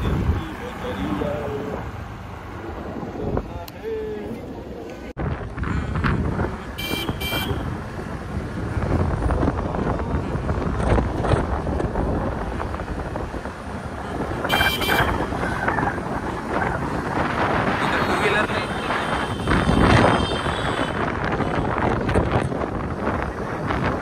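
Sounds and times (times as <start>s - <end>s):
wind rumble on microphone: 2.5s - 3.8s, 4.6s - 24.0s.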